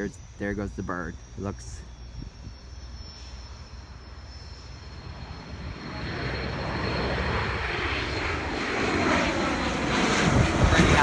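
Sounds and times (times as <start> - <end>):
airplane engine: 0.0 - 11.0.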